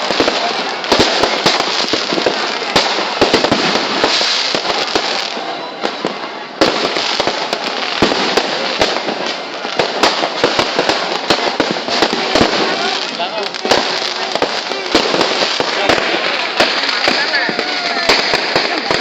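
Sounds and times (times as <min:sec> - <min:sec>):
fireworks popping and crackling: 0:00.0 - 0:19.0
sharp firework bangs: 0:00.0 - 0:19.0.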